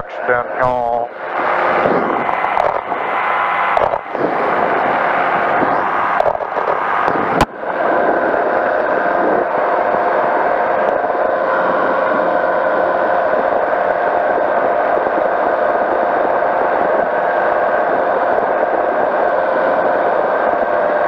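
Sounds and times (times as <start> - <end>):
engine and propeller droning: 0.0 - 21.0
wind buffeting microphone: 0.7 - 21.0.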